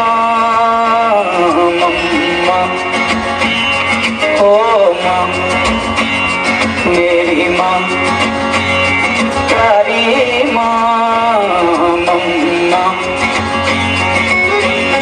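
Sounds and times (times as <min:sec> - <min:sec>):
guitar music over steady beat: 0:00.0 - 0:15.0.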